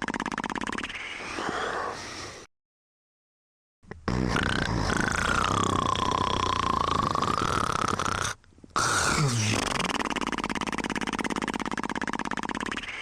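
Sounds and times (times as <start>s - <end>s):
person snoring: 0.0s - 2.5s, 4.1s - 13.0s.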